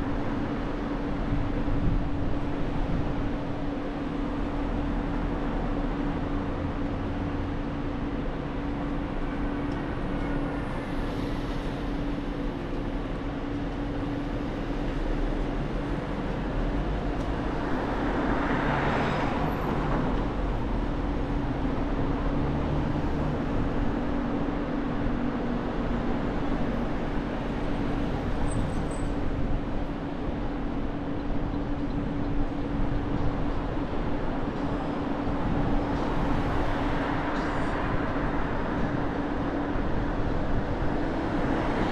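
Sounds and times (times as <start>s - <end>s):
road and tyre noise: 0.0s - 41.9s.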